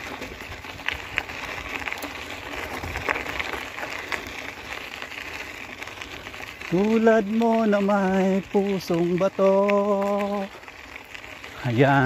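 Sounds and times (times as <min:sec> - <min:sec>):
bicycle tyres rolling on gravel: 0:00.0 - 0:12.0.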